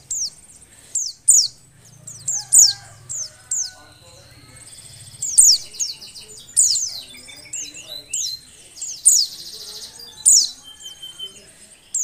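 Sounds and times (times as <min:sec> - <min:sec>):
bird buzzy chattering trills: 0:00.0 - 0:12.0
bird high sharp calls: 0:00.0 - 0:12.0.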